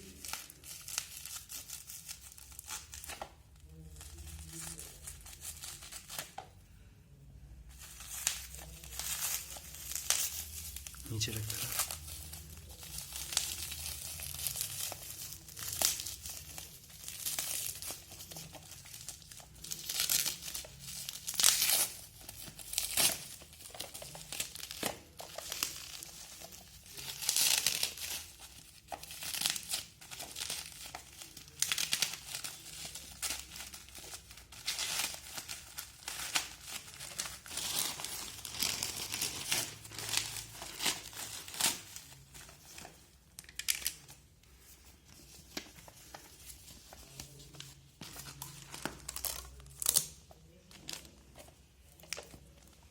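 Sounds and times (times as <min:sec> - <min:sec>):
plastic packaging crinkling and tearing: 0:00.0 - 0:06.7, 0:07.7 - 0:52.9.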